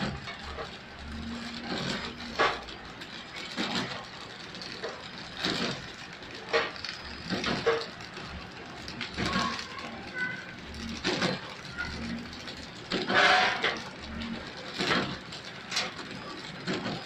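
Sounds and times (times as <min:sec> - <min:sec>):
packing machine humming: 0:00.0 - 0:17.0.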